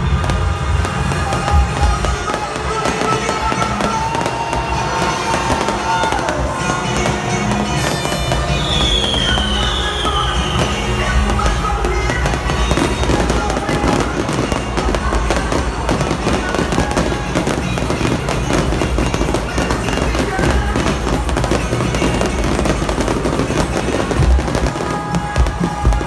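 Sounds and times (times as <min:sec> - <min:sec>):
fireworks crackling and popping: 0:00.0 - 0:26.0
loud party music with bass: 0:00.0 - 0:26.0.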